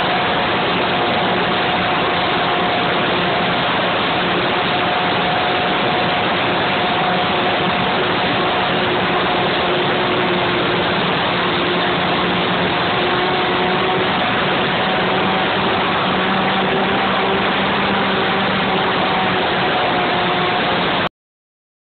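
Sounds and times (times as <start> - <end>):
model airplane motor drone: 0.0 - 21.1.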